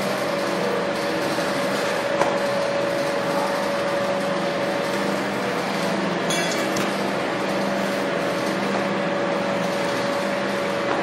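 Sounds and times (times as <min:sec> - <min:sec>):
conveyor machinery hum and whine: 0:00.0 - 0:11.0.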